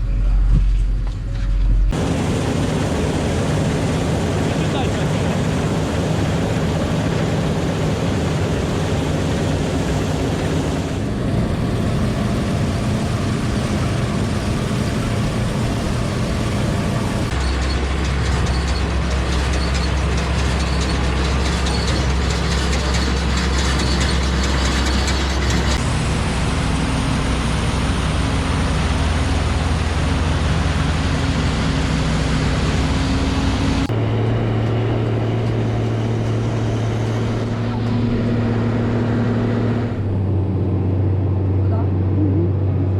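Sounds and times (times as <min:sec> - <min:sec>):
heavy machinery engines running: 0:00.0 - 0:42.9.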